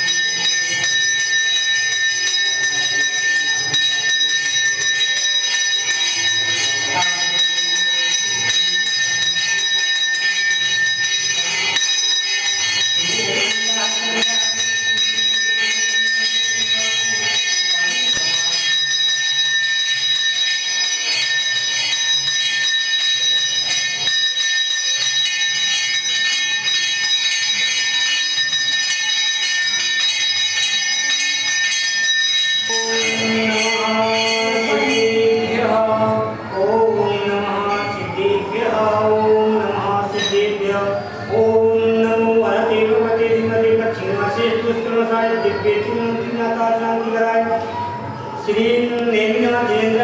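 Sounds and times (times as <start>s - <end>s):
bell ringing rapidly: 0.0s - 41.3s.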